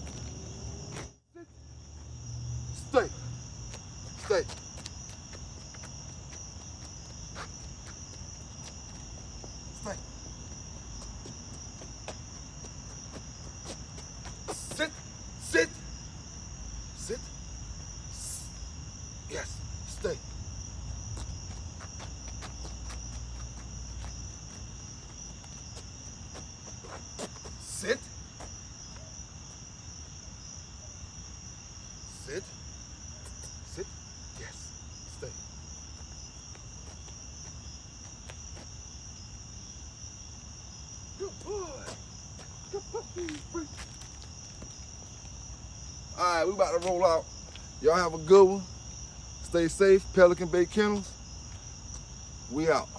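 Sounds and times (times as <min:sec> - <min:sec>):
crickets chirring: 0:00.0 - 0:52.9.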